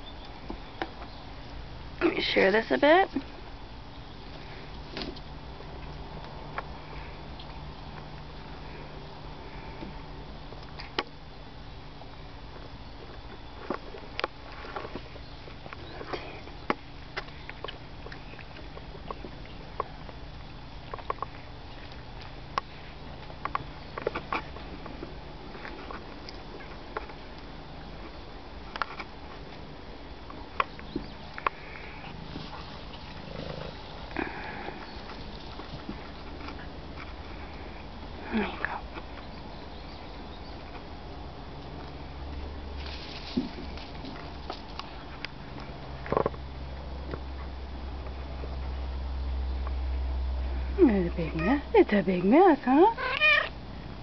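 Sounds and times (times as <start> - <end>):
low steady hum: 0.0 - 54.0
cats nibbling in grass: 3.1 - 48.8.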